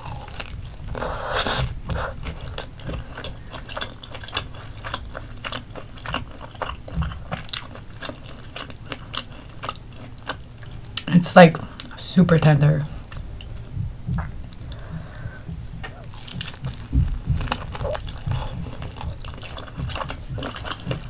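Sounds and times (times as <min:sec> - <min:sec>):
chewing with mouth clicks: 0:00.0 - 0:11.1, 0:13.0 - 0:21.0.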